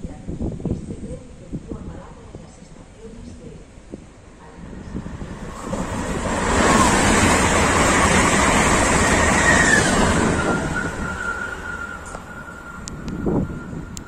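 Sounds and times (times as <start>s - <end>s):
train passing at speed: 0.3s - 14.0s.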